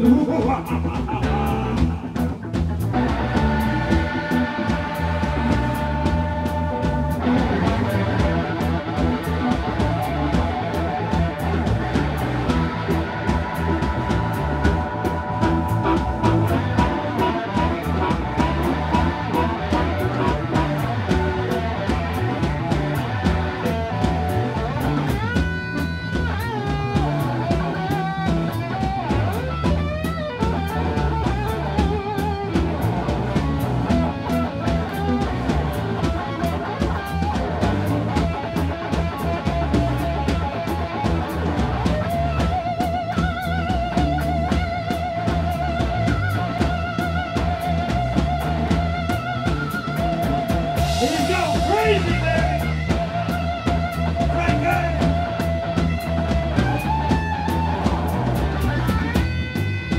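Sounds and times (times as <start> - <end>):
drum kit: 0.0 - 59.9
electric guitar lead: 0.0 - 59.9.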